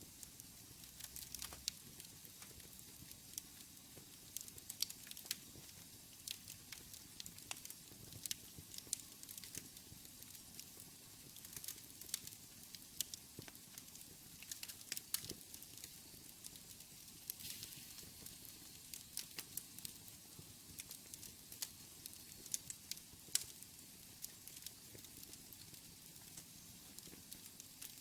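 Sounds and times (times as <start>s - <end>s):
fire steady hiss: 0.0s - 28.0s
wood fire crackling and popping: 0.0s - 28.0s.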